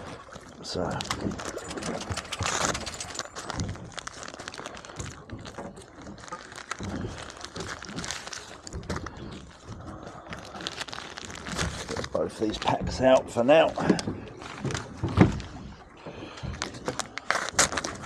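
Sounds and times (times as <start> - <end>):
plastic packs crinkling: 0.8 - 13.7, 14.4 - 15.5, 16.6 - 18.0.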